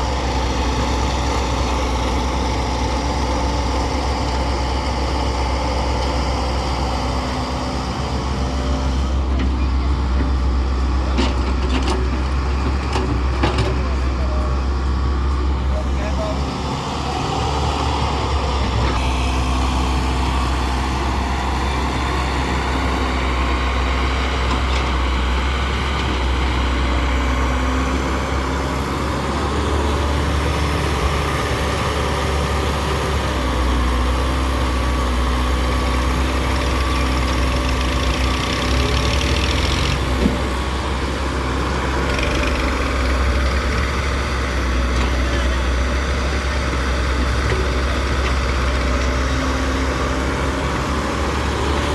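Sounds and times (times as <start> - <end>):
diesel excavator engine rumbling: 0.0 - 51.9.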